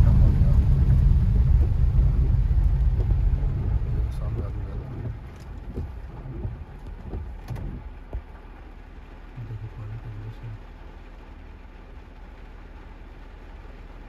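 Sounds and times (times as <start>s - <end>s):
car low rumble: 0.0s - 14.0s
heavy rain on car: 0.0s - 14.0s.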